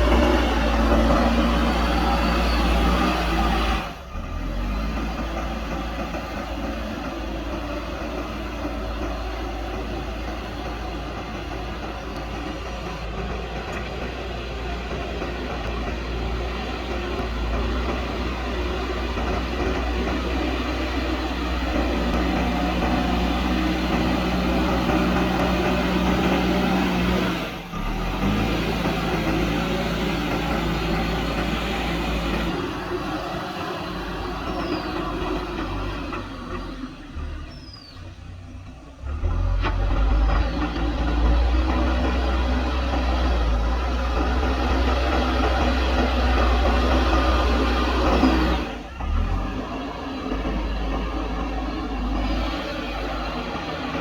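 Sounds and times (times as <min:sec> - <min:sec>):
diesel engine low rumble: 0:00.0 - 0:54.0.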